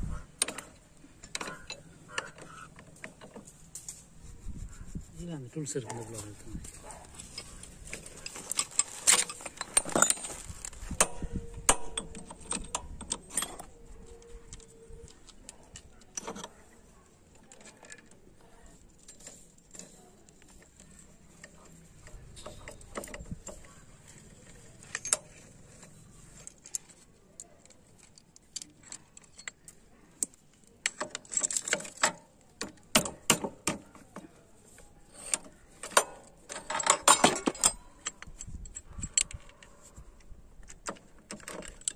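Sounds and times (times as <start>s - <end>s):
metal tools clinking: 0.4s - 4.1s, 5.7s - 16.8s, 17.4s - 40.0s.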